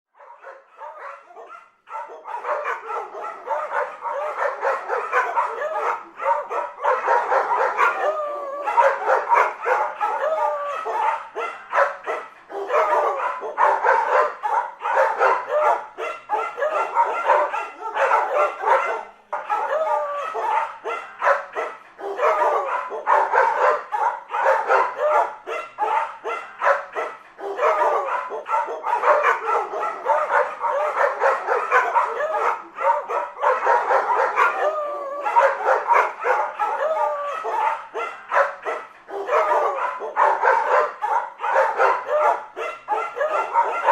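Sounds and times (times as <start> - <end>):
dog barking and yipping: 0.2 - 43.9.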